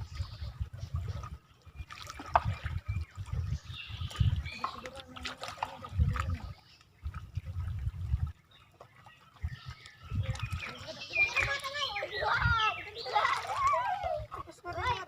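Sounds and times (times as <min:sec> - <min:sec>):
wind gusts on microphone: 0:00.0 - 0:04.9, 0:05.6 - 0:08.5, 0:09.4 - 0:15.0
water lapping at shoreline: 0:00.0 - 0:15.0.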